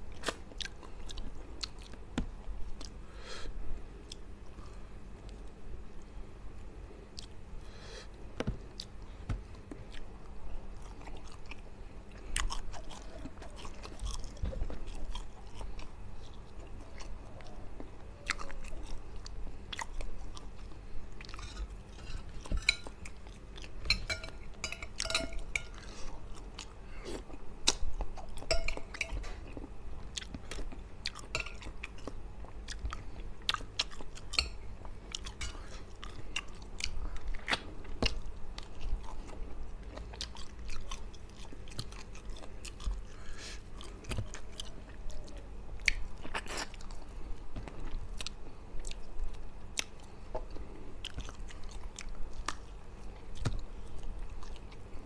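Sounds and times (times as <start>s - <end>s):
chewing and crunching: 0.0s - 3.0s, 8.6s - 55.0s.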